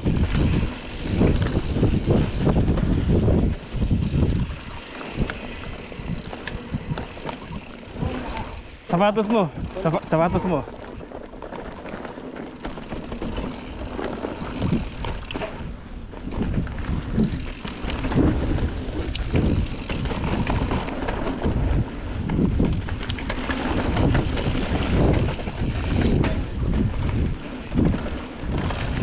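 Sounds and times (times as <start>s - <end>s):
wind rushing over microphone: 0.0s - 11.6s, 12.6s - 29.0s
bike clicks and knocks: 0.0s - 29.0s
bike tyres rumbling over dirt: 0.0s - 29.0s.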